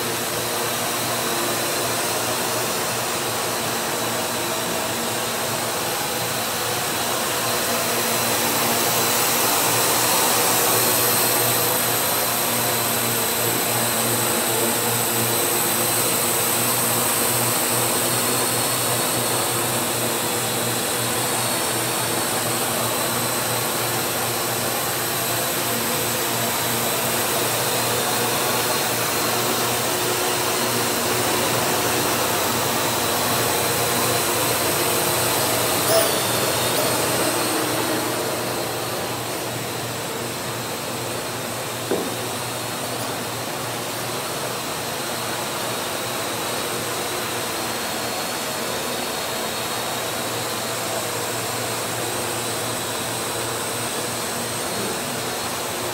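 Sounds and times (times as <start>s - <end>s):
quadcopter rotors buzzing: 0.0s - 45.7s.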